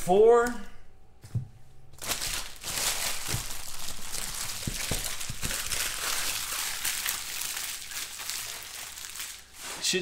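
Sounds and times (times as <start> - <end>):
foil wrappers crinkling: 2.0 - 10.0.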